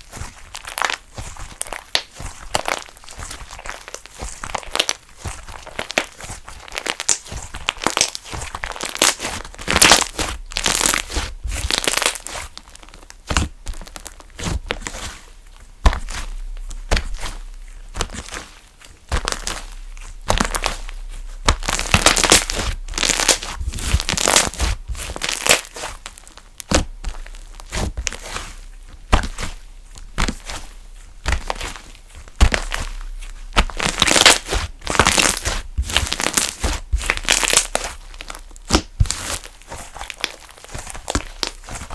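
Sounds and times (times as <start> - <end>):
slime crackling and popping: 0.0 - 41.9.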